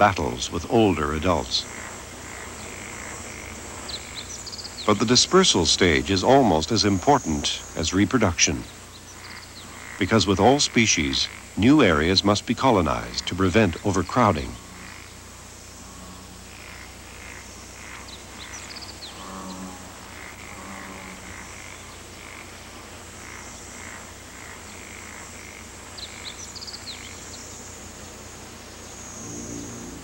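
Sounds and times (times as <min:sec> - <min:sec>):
frogs croaking: 0:00.0 - 0:30.0.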